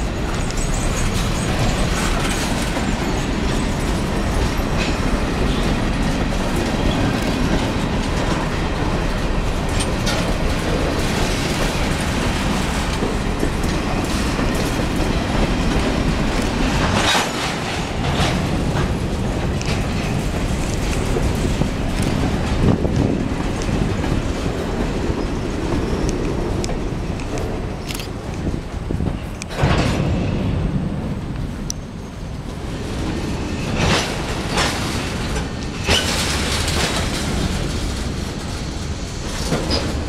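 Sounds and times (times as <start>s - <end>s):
freight car wheels rumbling: 0.0s - 40.0s.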